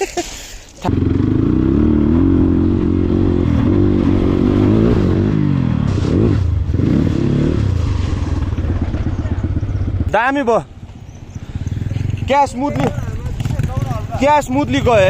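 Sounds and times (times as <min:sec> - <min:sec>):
dirt bike engine revving: 0:00.8 - 0:15.0.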